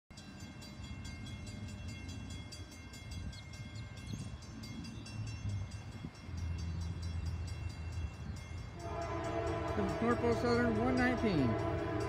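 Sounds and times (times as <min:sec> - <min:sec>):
crossing bell ringing: 0:00.1 - 0:12.0
freight train rumbling: 0:00.1 - 0:12.0.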